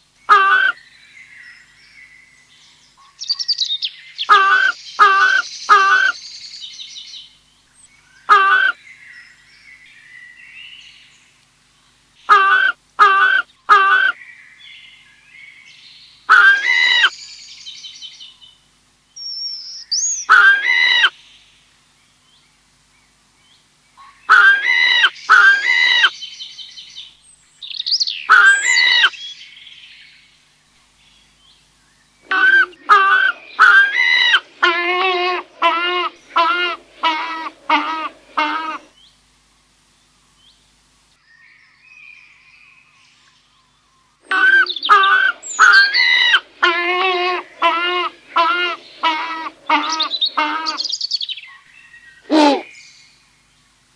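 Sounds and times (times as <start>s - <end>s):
bird calls: 0.2s - 11.3s, 12.2s - 30.3s, 31.0s - 39.3s, 41.2s - 53.7s.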